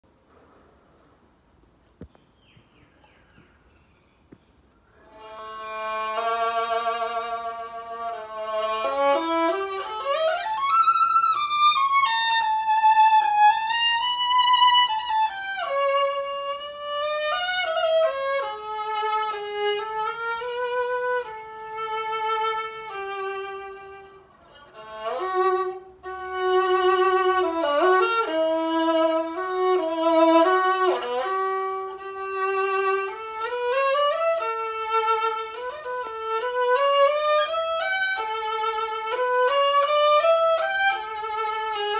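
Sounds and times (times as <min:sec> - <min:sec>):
bowed violin melody: 0:04.3 - 0:41.9.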